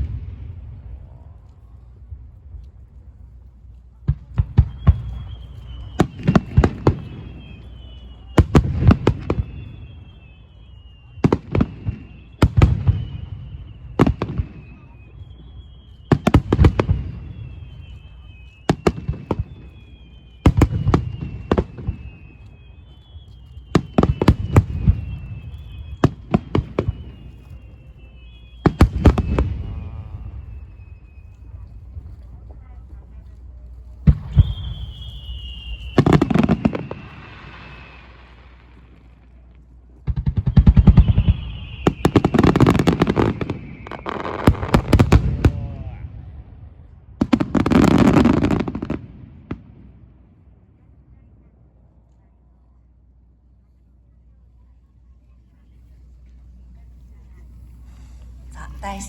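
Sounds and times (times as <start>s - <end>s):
fireworks whistling down in pitch: 4.0s - 51.9s, 55.0s - 59.0s.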